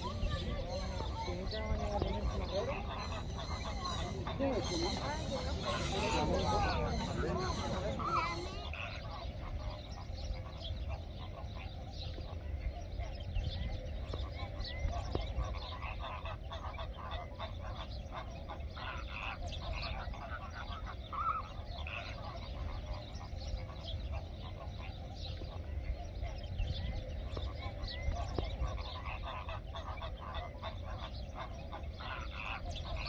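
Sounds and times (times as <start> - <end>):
flamingos calling: 0.0 - 33.0
steady low rumble: 0.0 - 33.0.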